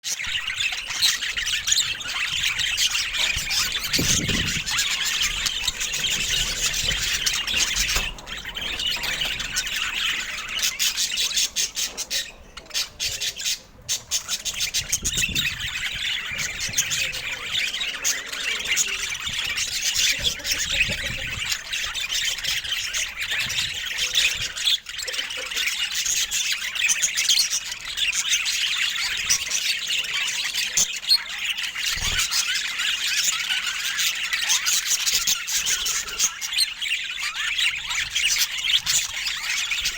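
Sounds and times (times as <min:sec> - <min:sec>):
budgerigars chattering: 0:00.1 - 0:39.9.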